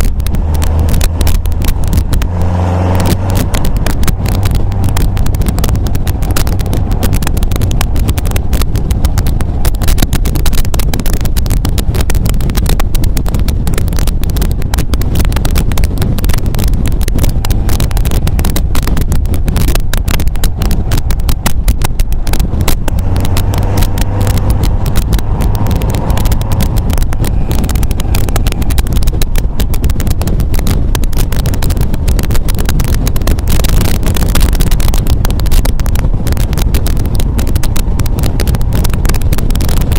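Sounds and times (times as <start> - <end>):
car engine running: 0.0 - 39.9
wind buffeting microphone: 0.0 - 39.9.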